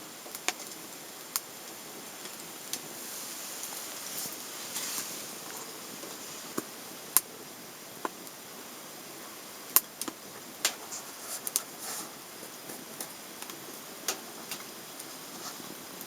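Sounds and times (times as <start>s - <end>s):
fire hissing: 0.0s - 16.0s
wood fire crackling and popping: 0.0s - 16.0s.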